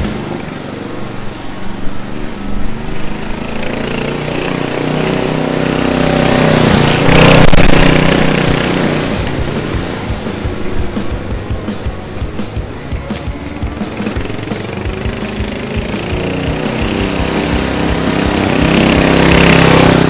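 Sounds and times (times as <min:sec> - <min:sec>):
riding lawn mower engine passing: 0:00.0 - 0:20.0.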